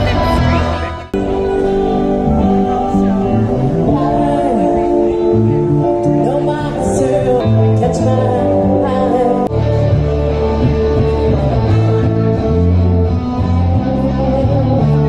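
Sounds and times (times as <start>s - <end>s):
bass guitar: 0.0s - 15.0s
electric guitar: 0.0s - 15.0s
person singing: 0.0s - 15.0s.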